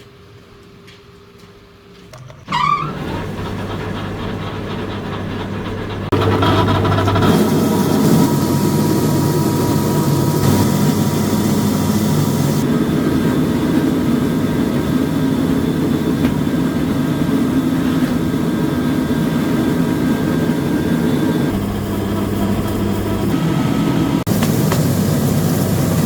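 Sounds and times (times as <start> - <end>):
rice milling machine drone: 2.5 - 26.0.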